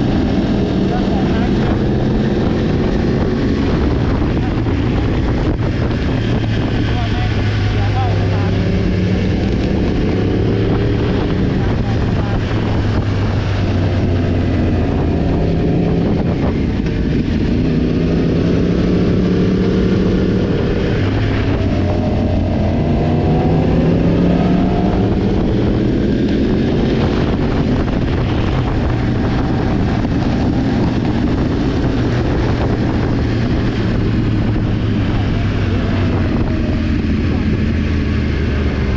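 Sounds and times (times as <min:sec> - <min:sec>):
motorcycle engine revving: 0:00.0 - 0:38.9
wind buffeting microphone: 0:00.0 - 0:38.9.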